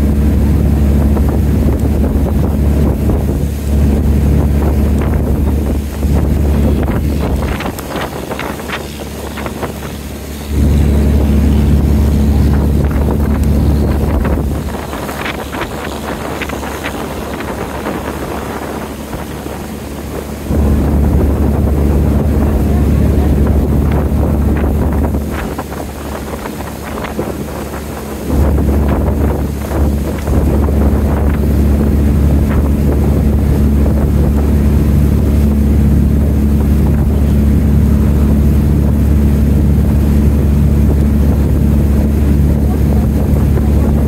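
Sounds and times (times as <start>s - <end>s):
boat engine running: 0.0s - 44.0s
water splashing: 0.0s - 44.0s
wind buffeting microphone: 0.0s - 44.0s.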